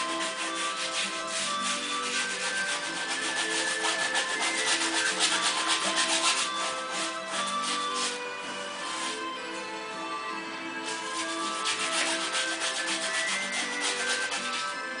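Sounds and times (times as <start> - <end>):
paintbrush scrubbing on canvas: 0.0 - 8.2, 8.8 - 9.2, 10.8 - 14.8
soft background music: 0.0 - 15.0.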